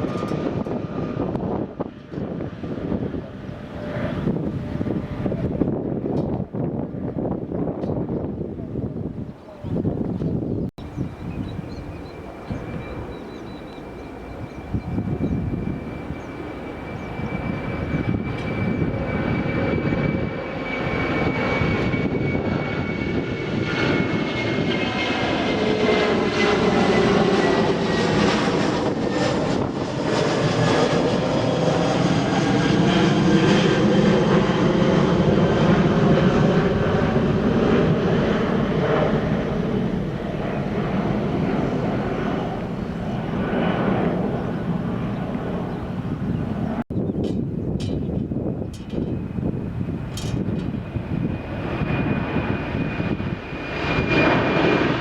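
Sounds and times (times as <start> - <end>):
jet engine whine: 0.0 - 55.0
rushing jet engine noise: 0.0 - 55.0.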